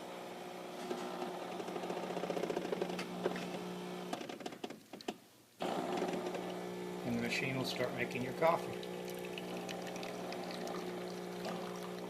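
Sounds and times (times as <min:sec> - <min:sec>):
coffee machine humming and rattling: 0:00.4 - 0:04.2, 0:05.6 - 0:12.0.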